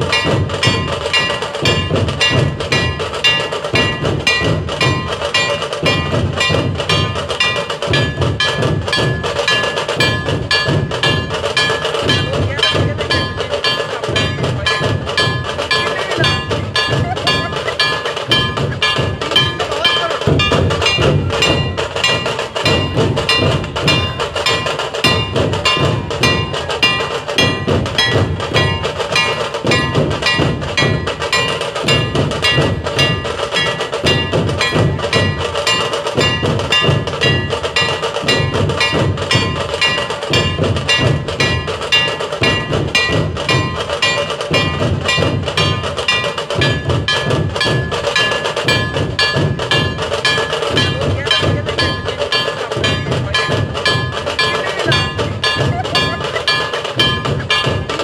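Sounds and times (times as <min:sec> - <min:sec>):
bells ringing: 0:00.0 - 0:58.0
cymbals clashing: 0:00.0 - 0:58.0
pulsing drumming: 0:00.0 - 0:58.0.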